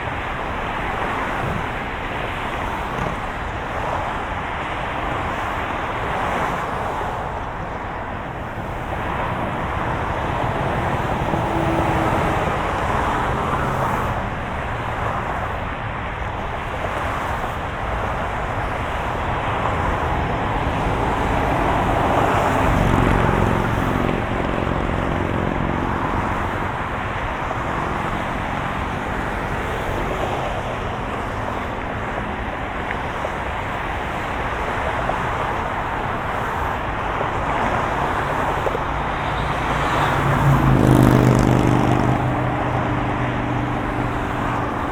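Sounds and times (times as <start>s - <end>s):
tyre and road noise: 0.0s - 44.9s
low engine hum: 7.0s - 16.6s, 17.8s - 44.9s.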